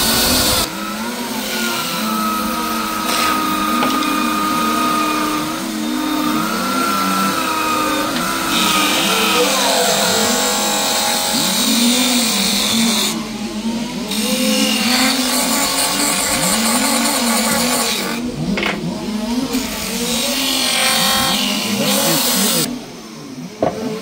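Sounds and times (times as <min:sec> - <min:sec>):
rc car engines revving: 0:00.0 - 0:24.0.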